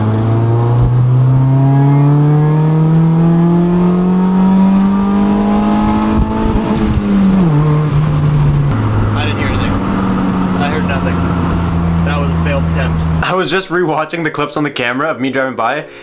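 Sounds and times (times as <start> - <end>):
car engine accelerating: 0.0 - 13.4.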